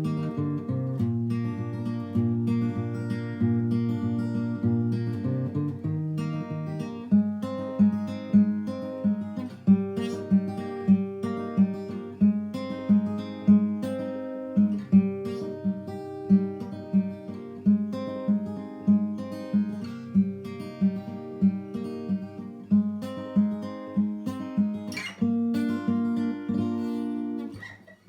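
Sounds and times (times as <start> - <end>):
acoustic guitar picking: 0.0 - 28.0.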